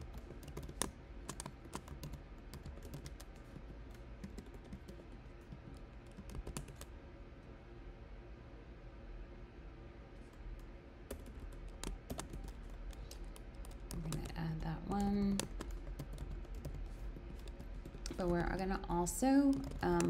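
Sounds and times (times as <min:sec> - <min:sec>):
keyboard typing: 0:00.0 - 0:06.9, 0:10.3 - 0:20.0.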